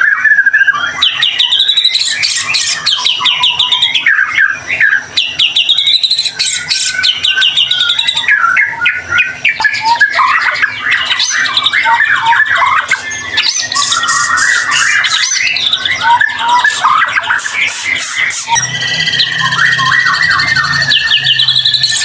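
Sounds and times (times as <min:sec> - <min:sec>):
songbird singing whistles and trills: 0:00.0 - 0:22.0.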